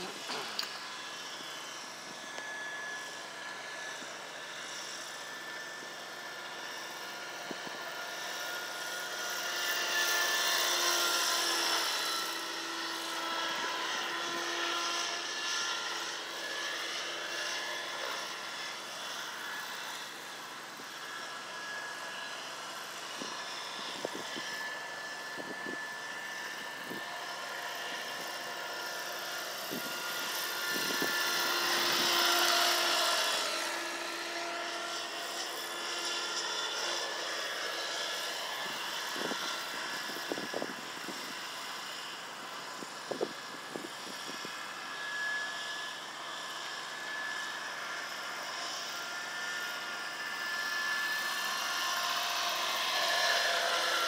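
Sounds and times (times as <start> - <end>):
model helicopter whine: 0.0 - 54.0.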